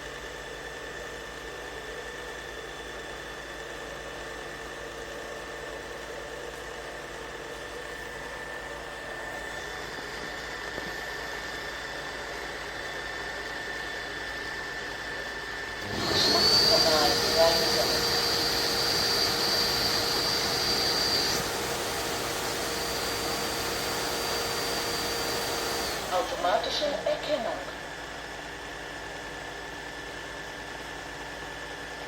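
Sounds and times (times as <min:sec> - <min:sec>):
floor cleaner motor hum with whine: 0:00.0 - 0:32.0.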